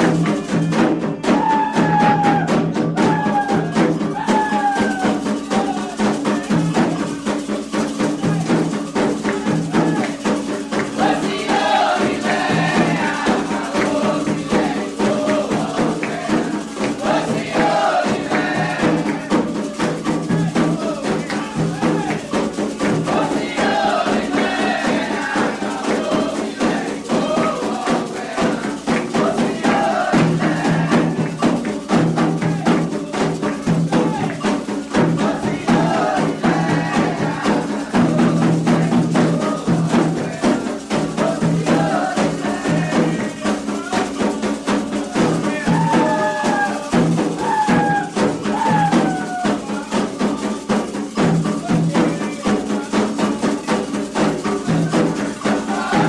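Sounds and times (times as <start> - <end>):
hand drums rhythm: 0.0 - 56.0
sung chant: 1.3 - 56.0
shaken rattles: 1.6 - 56.0.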